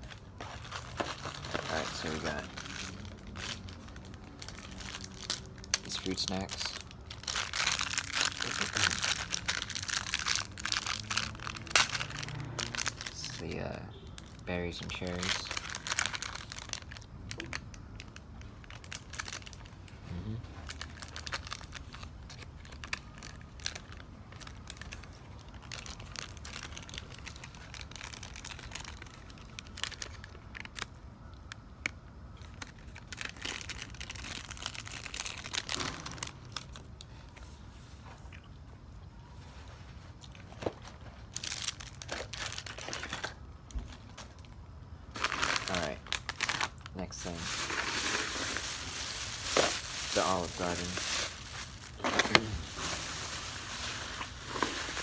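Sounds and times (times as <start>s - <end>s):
plastic wrappers crinkling: 0.0s - 20.0s, 20.6s - 37.4s, 40.1s - 55.0s.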